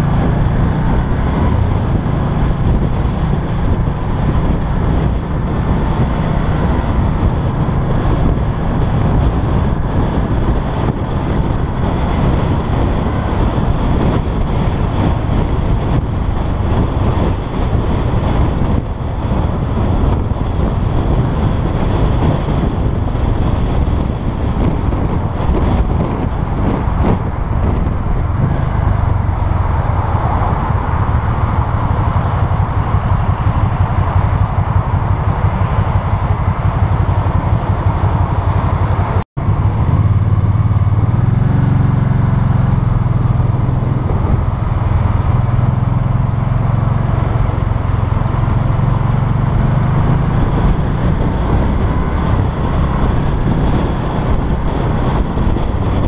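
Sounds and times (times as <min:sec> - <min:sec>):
city traffic: 0:00.0 - 0:56.0
three-wheeler engine running: 0:00.0 - 0:56.0.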